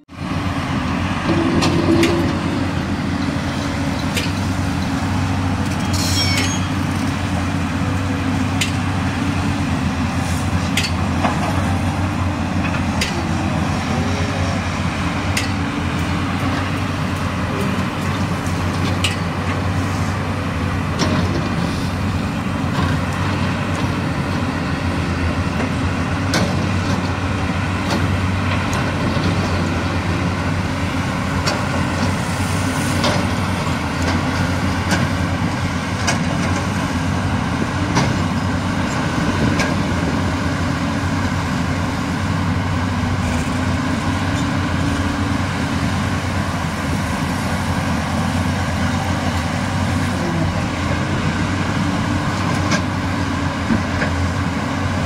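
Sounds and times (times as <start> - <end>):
excavator diesel engines under load: 0.1 - 55.0.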